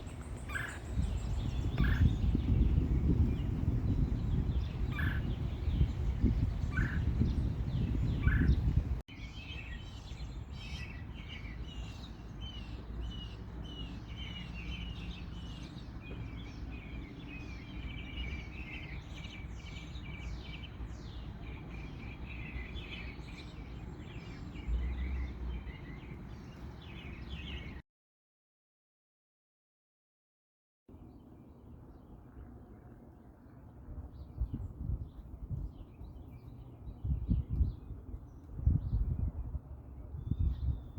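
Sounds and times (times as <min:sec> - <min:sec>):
small birds chirping: 0:00.0 - 0:27.8, 0:31.0 - 0:40.9.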